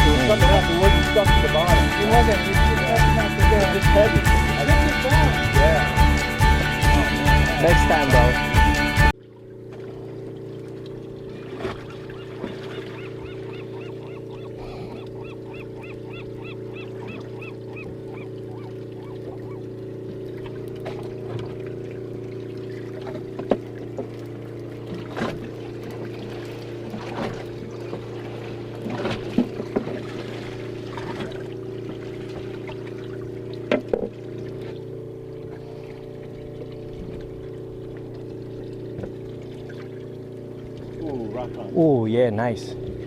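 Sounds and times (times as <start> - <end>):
boat engine running: 0.0 - 43.0
water sloshing: 0.0 - 43.0.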